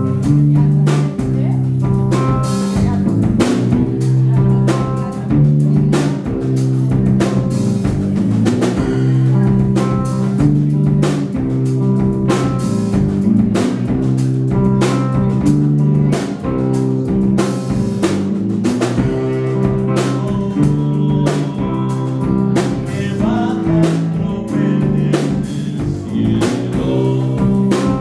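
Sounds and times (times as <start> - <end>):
drum kit beat: 0.0 - 28.0
guitar: 0.0 - 28.0
sustained bass notes: 0.0 - 28.0.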